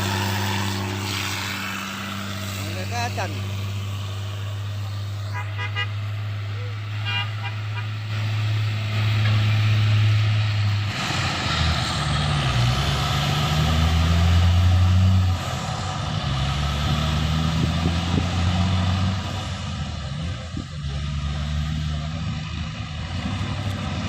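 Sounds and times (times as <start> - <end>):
truck engine under load: 0.0 - 24.0.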